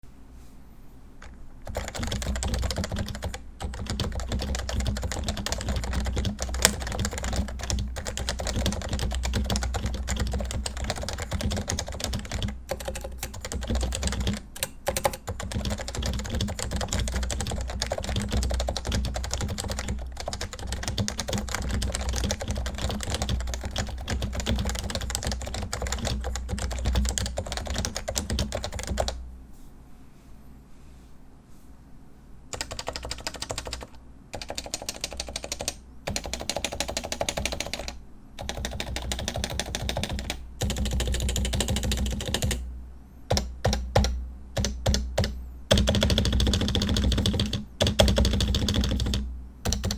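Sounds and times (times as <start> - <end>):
fast typing on keyboard: 1.2 - 29.3, 32.5 - 42.6, 43.2 - 49.9.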